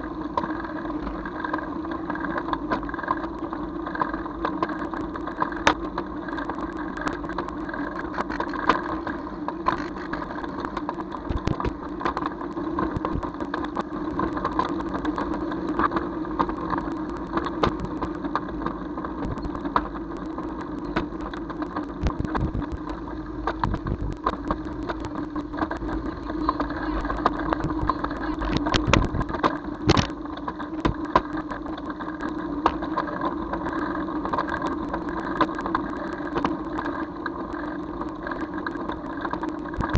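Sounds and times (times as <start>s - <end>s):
small clicks and rattles: 0.0s - 39.9s
vehicle engine and road noise: 0.0s - 39.9s.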